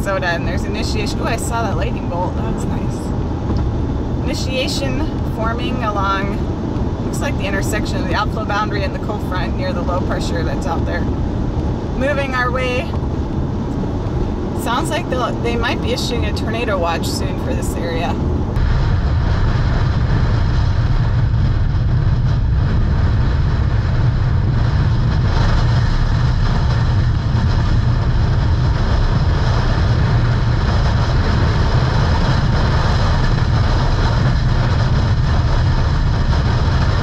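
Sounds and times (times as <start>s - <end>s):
heavy low rumble: 0.0s - 37.0s
wind and road noise: 0.0s - 37.0s.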